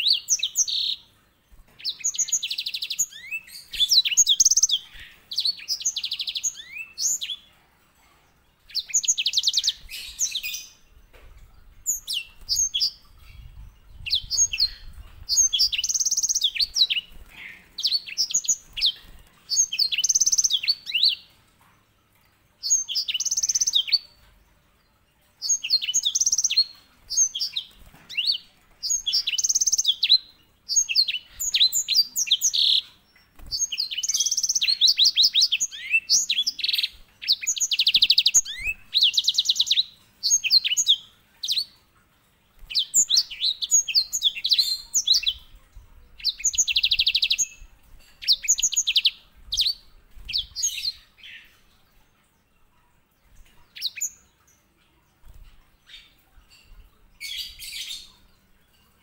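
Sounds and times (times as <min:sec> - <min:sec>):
finch singing trills: 0:00.0 - 0:07.6, 0:08.3 - 0:21.4, 0:22.6 - 0:24.4, 0:25.4 - 0:41.8, 0:42.6 - 0:52.2, 0:53.2 - 0:59.0.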